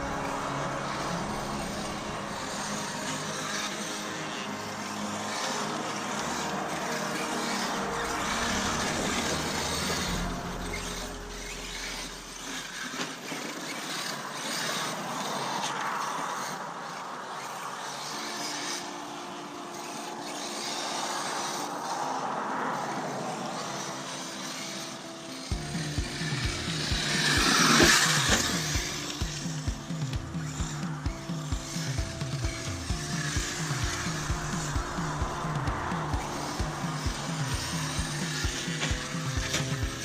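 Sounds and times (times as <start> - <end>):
electric motor whine: 0.0 - 40.0
tyres on gravel: 0.0 - 40.0.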